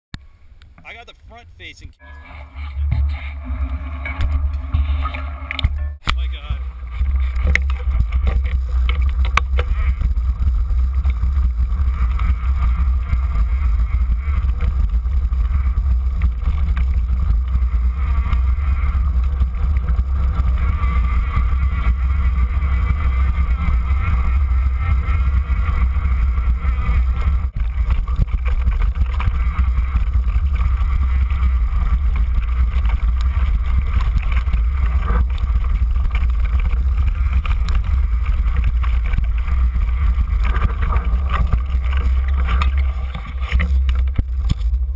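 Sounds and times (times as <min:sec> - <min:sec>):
tyres running over dirt: 0:00.6 - 0:44.9
bike rattling: 0:02.0 - 0:44.9.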